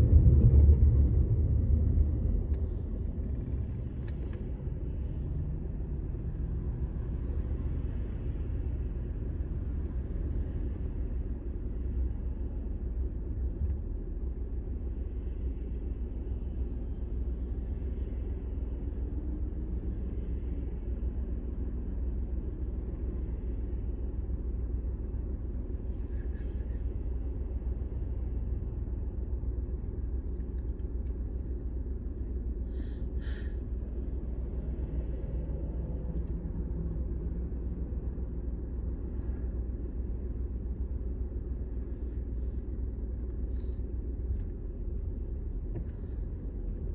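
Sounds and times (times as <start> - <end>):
car cabin engine rumble: 0.0 - 46.9.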